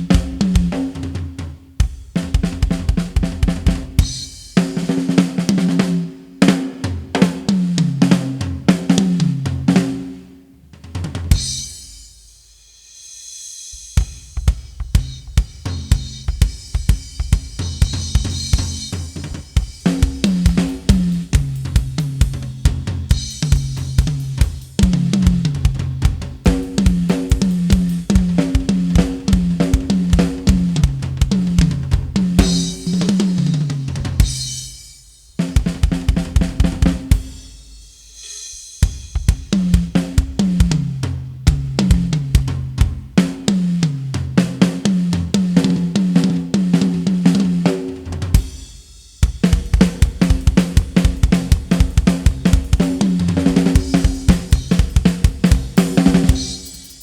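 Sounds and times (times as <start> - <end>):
drum-kit beat: 0.0 - 10.1, 10.8 - 57.0.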